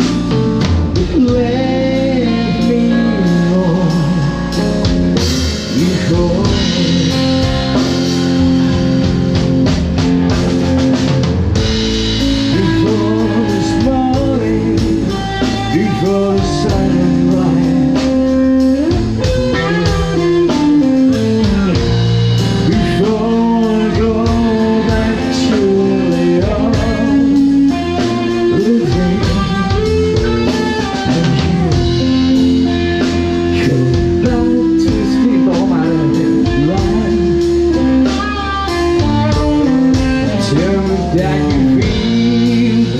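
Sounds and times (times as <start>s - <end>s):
band playing blues song: 0.0s - 42.9s.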